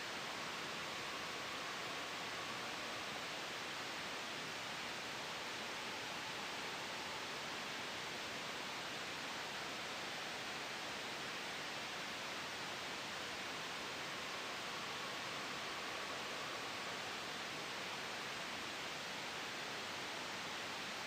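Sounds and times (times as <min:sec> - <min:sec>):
gentle wind: 0:00.0 - 0:21.0
white noise hiss: 0:00.0 - 0:21.0.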